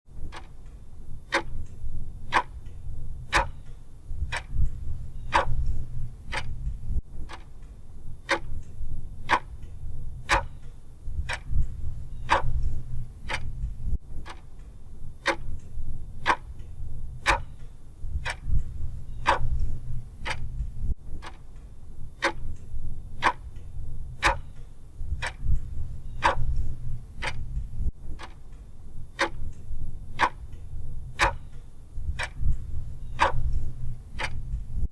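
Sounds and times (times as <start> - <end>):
mechanical clock ticking: 0.1 - 34.9.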